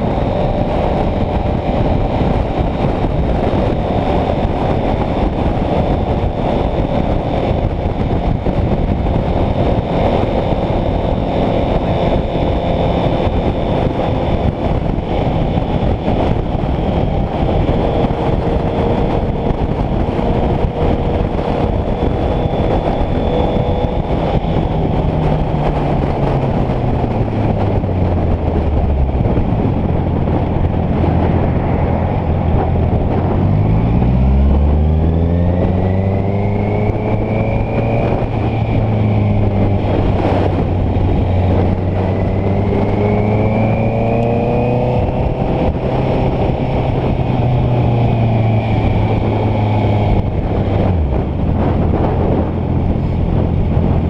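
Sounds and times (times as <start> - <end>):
motorcycle engine accelerating: 0.0 - 54.0
wind on microphone: 0.0 - 54.0.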